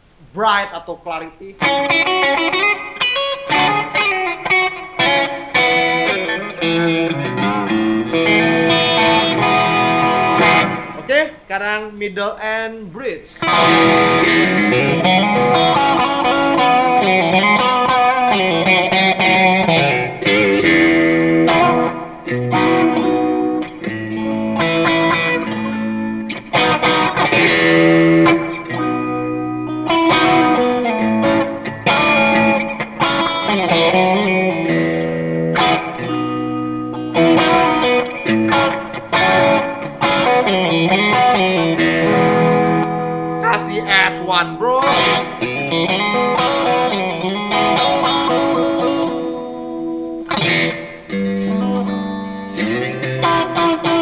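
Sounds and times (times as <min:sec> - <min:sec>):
electric guitar playing: 0:01.4 - 0:11.1, 0:13.4 - 0:54.0.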